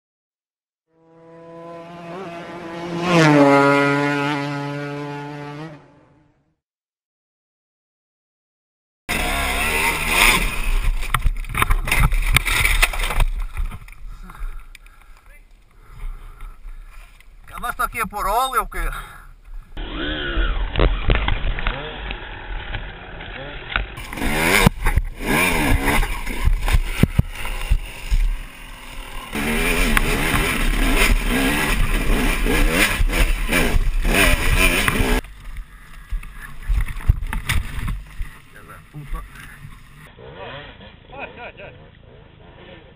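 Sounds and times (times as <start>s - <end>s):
dirt bike engine revving: 0.9s - 6.4s, 9.1s - 15.2s, 15.8s - 42.9s.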